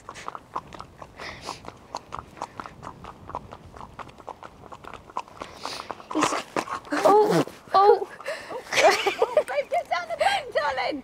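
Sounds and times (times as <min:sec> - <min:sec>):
hooves clip-clopping on tarmac: 0:00.0 - 0:11.0.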